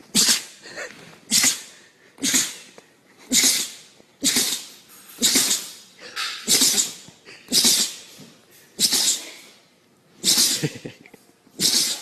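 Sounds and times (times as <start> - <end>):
dog sneezing: 0.0 - 2.7, 3.3 - 9.6, 10.2 - 10.9, 11.5 - 12.0.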